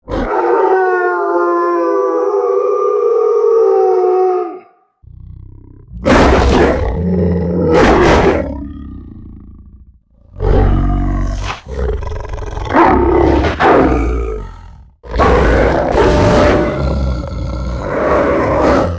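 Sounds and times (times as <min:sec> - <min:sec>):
deep monster roars: 0:00.0 - 0:18.9.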